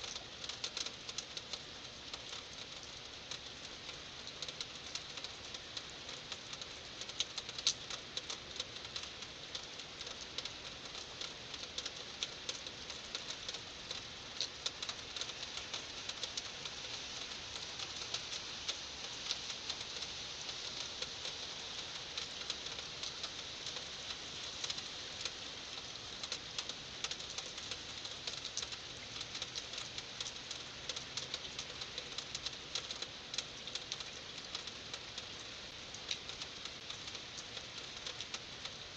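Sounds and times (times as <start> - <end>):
heavy rain falling: 0.0 - 38.9
raindrops pattering on hard surfaces: 0.0 - 38.9.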